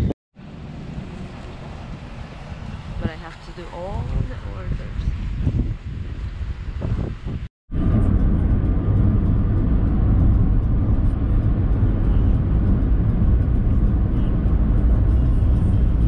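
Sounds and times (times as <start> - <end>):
moving vehicle rumble: 0.0 - 16.0.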